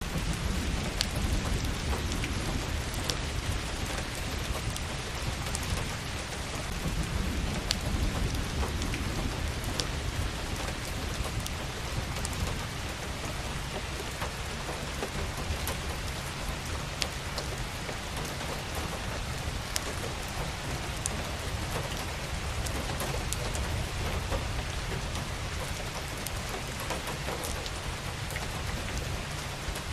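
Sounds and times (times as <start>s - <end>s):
steady rushing hiss: 0.0s - 29.9s.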